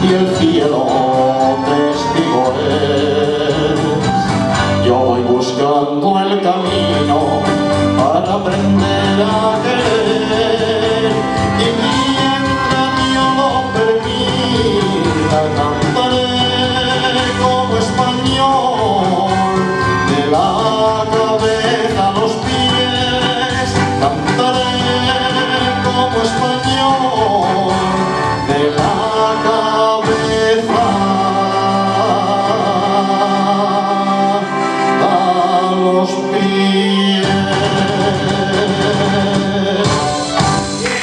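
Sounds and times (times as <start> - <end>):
backing track with guitar: 0.0 - 41.0
man singing through speakers: 0.0 - 41.0.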